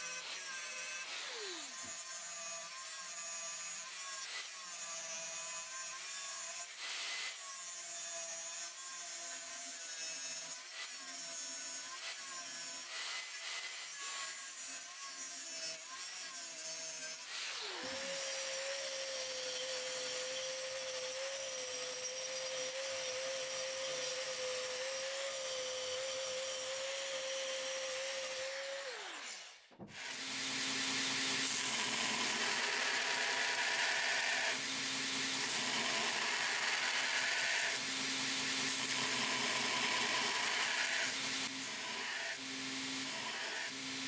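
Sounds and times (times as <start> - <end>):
angle grinder cutting steel: 0.0 - 44.0
belt grinder grinding steel: 0.0 - 44.0.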